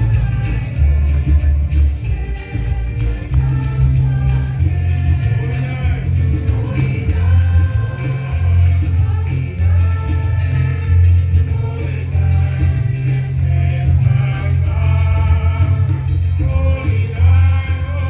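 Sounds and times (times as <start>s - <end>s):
choir singing: 0.0s - 18.0s
heavy bass line: 0.0s - 18.0s
steady percussion beat: 0.0s - 18.0s.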